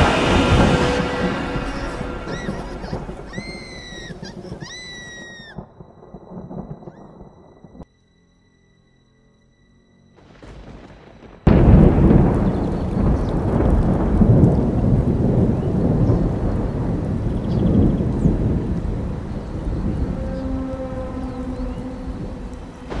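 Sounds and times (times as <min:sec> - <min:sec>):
rain: 0:00.0 - 0:07.8, 0:10.2 - 0:23.0
thunder crack and rumble: 0:00.0 - 0:07.9, 0:10.2 - 0:23.0.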